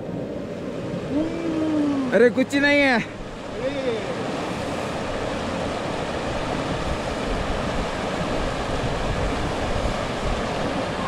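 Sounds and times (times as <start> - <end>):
river rushing over boulders: 0.0 - 11.0.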